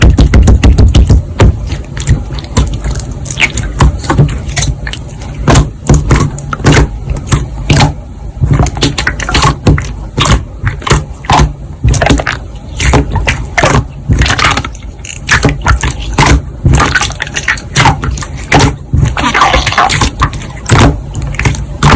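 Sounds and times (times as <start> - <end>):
slime squished by hand: 0.0 - 21.9.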